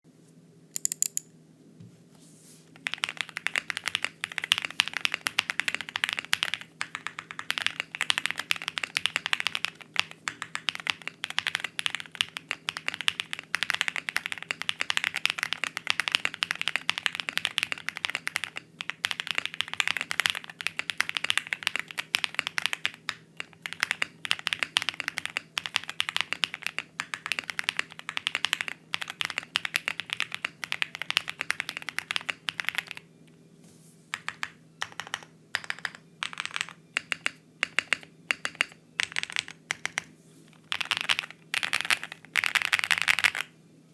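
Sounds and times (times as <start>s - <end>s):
mechanical keyboard typing: 0.8s - 1.2s, 2.8s - 33.0s, 34.1s - 43.5s.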